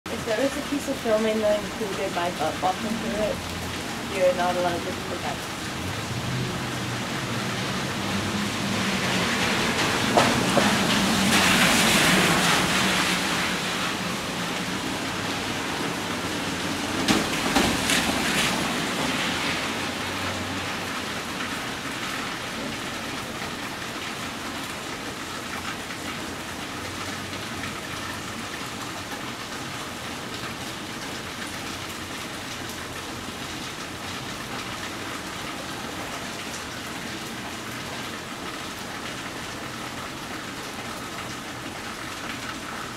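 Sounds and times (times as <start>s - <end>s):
rain hissing on street: 0.1s - 42.9s.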